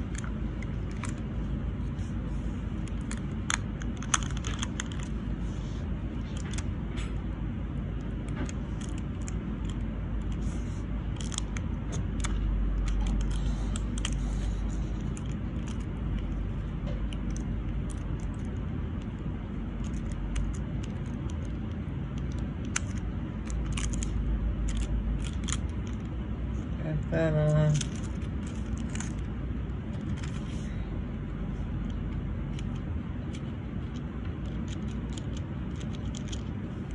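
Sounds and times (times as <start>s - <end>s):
steady low rumble: 0.0s - 36.9s.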